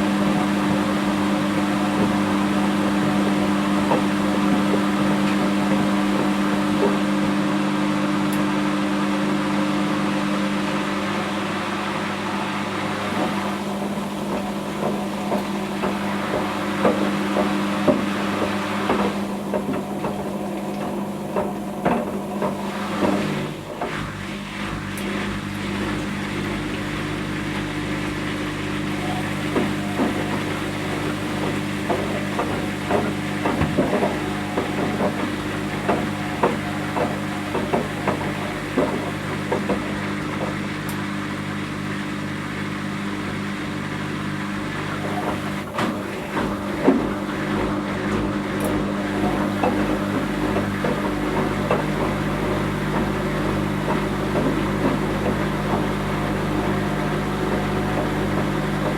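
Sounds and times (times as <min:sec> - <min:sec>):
washing machine motor hum: 0:00.0 - 0:58.9.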